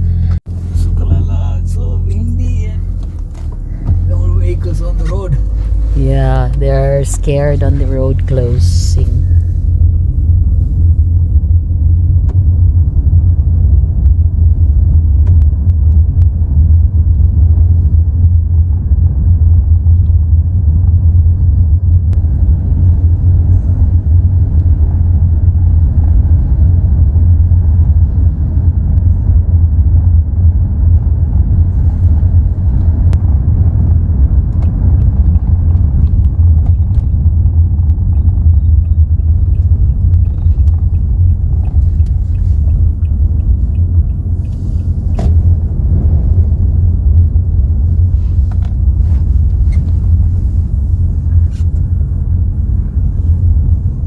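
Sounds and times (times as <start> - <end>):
strong wind buffeting microphone: 2.8 - 54.0.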